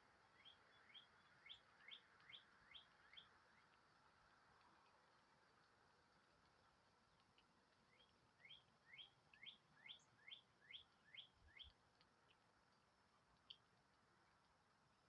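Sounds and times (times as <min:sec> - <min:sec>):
songbird calling faintly: 0:00.3 - 0:05.1, 0:07.0 - 0:14.5.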